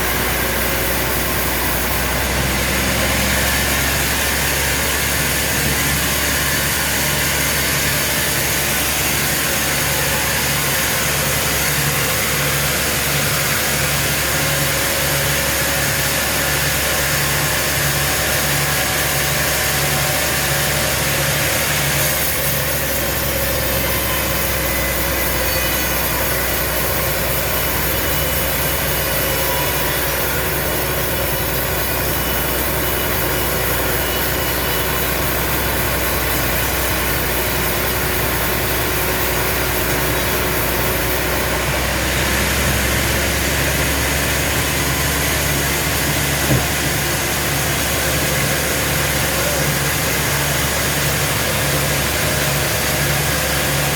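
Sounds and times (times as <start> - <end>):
sawmill machinery drone: 0.0 - 53.9.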